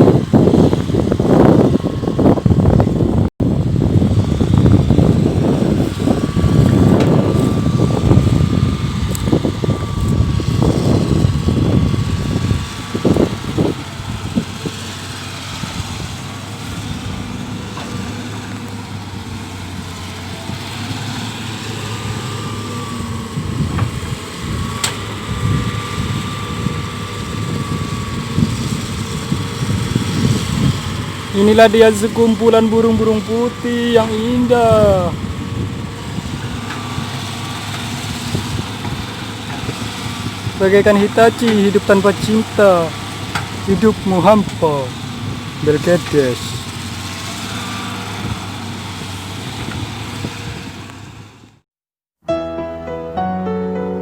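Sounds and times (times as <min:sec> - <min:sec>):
excavator engine and hydraulics: 0:00.0 - 0:51.6.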